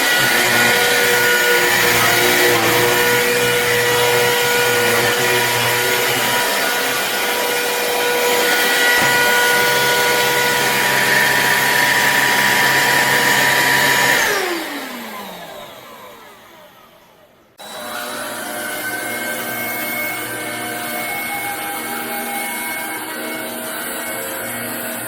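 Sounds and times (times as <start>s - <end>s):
vacuum cleaner motor whining: 0.0s - 25.0s.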